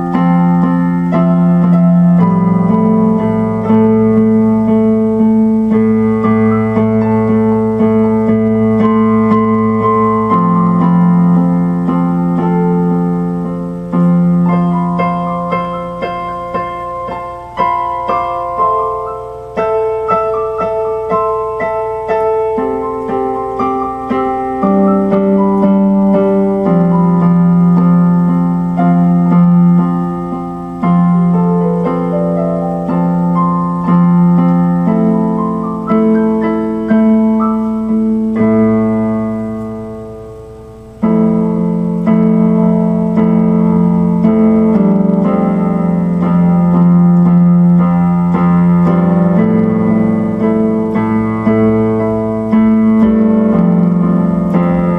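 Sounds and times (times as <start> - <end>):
slow keyboard chords: 0.0 - 54.9.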